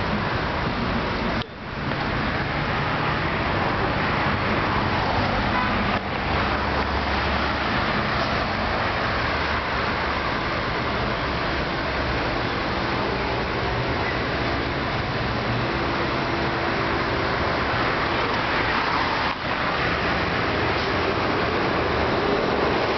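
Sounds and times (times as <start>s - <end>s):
cars driving past: 0.0s - 22.9s.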